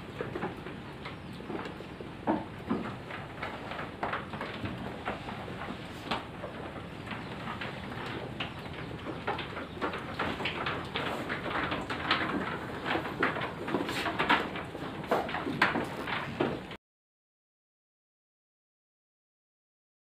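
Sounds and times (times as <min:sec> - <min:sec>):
goats clicking and knocking in pen: 0:00.0 - 0:16.8.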